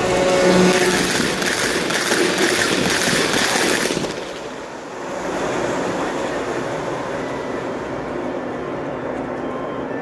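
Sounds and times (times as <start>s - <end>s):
model train wheels rushing on track: 0.0s - 9.4s.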